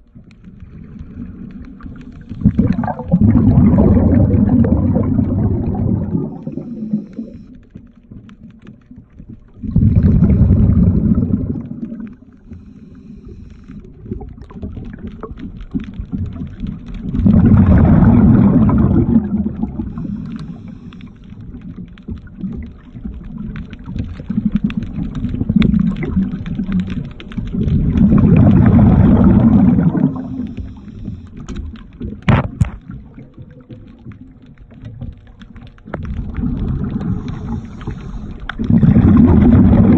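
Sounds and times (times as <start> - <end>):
underwater exhaled bubbles rumbling: 0.0 - 39.9.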